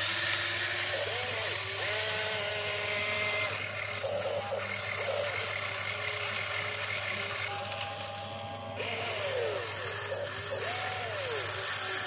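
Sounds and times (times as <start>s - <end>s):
electric motors and gears whirring: 0.0s - 12.0s.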